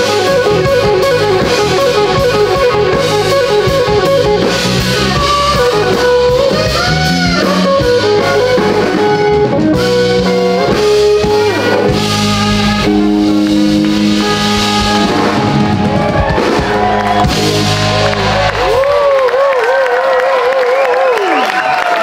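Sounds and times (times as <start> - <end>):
live blues band: 0.0 - 22.0.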